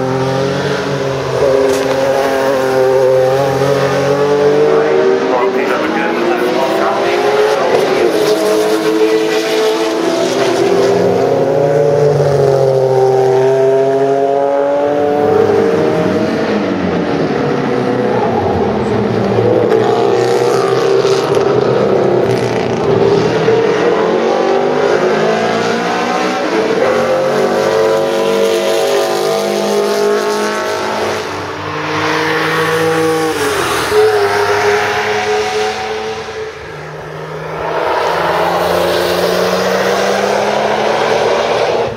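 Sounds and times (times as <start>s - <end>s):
racing cars passing at full throttle: 0.0s - 41.9s.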